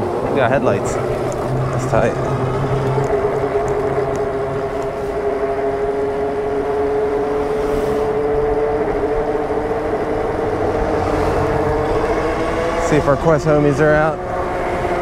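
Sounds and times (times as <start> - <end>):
electric bike motor whining: 0.0 - 15.0
tire road noise: 0.0 - 15.0.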